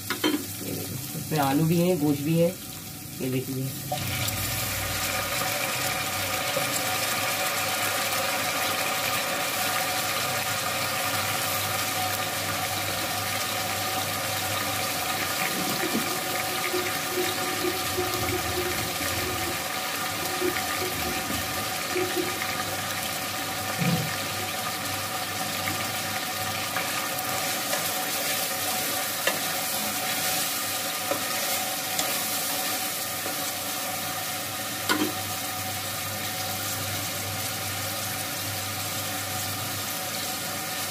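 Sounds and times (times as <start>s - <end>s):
meat and potatoes sizzling in oil: 0.0s - 40.9s.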